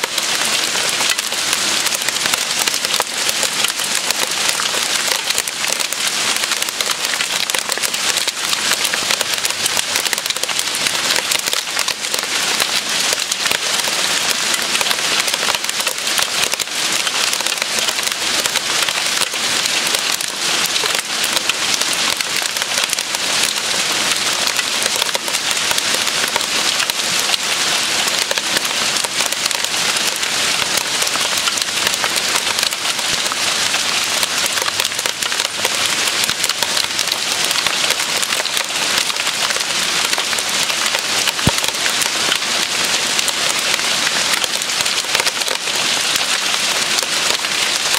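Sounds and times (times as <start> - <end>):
hail falling on plants and soil: 0.0 - 47.9.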